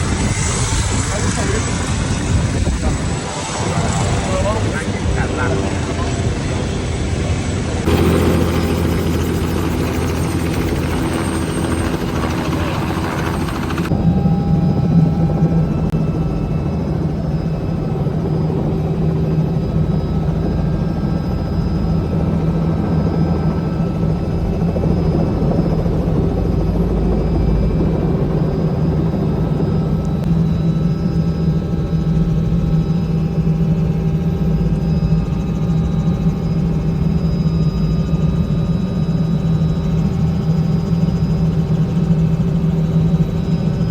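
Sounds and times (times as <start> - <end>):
helicopter rotor and turbine: 0.0 - 43.9.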